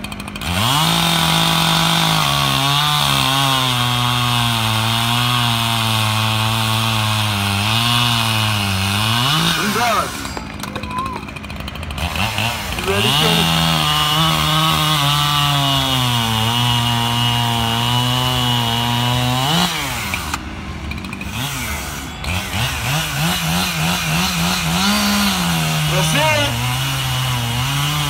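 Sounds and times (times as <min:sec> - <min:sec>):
chainsaw cutting timber: 0:00.0 - 0:28.0.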